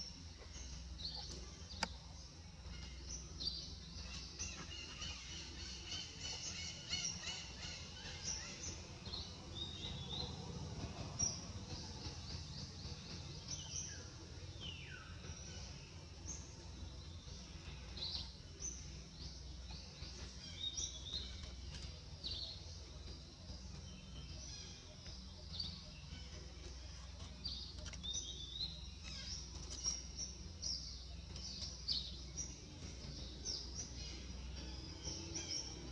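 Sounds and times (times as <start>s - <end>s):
birds chirping: 0.0s - 35.9s
low background rumble: 0.0s - 35.9s.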